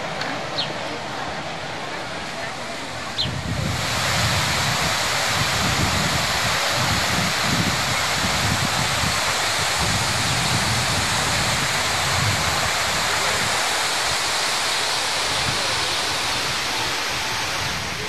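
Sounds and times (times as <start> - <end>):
fountain water splashing into pool: 0.0 - 18.0.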